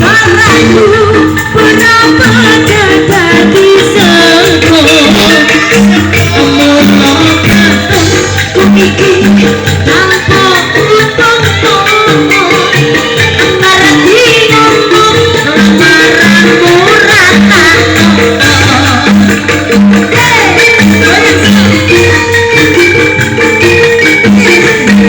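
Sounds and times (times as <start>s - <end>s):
amplified angklung ensemble music: 0.0s - 25.0s.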